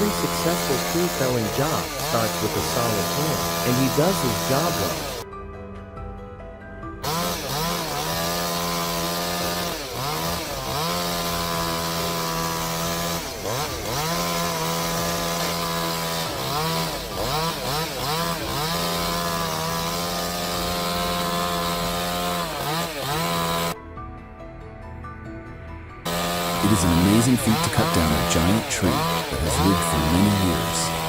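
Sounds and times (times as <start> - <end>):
chainsaw cutting wood: 0.0 - 5.2, 7.0 - 23.8, 26.0 - 31.0.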